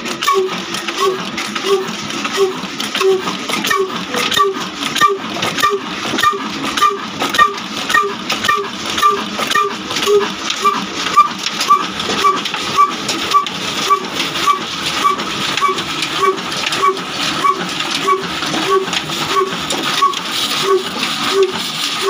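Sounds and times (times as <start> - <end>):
diesel engine running slowly: 0.0 - 22.0.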